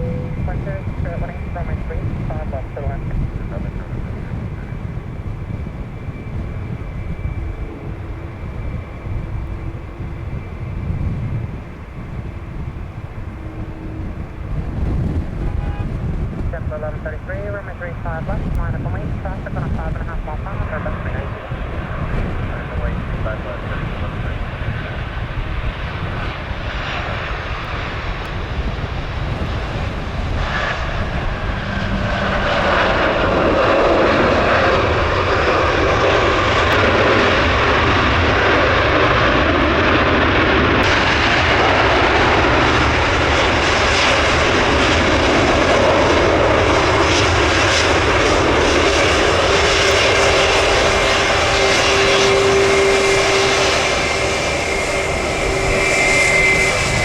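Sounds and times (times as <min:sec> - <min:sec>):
jet airliner engines: 0:00.0 - 0:57.0
steady whine: 0:00.0 - 0:57.0.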